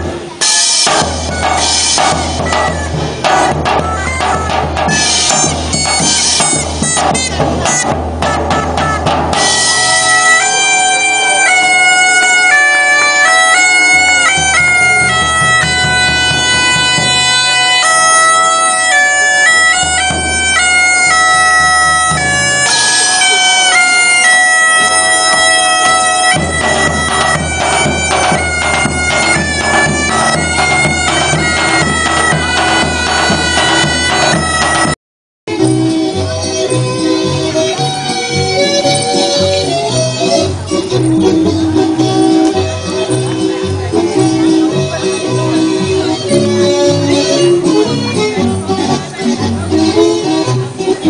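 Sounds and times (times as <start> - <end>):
drums beating: 0.0 - 51.0
bagpipes playing a tune: 0.3 - 35.0, 35.6 - 51.0.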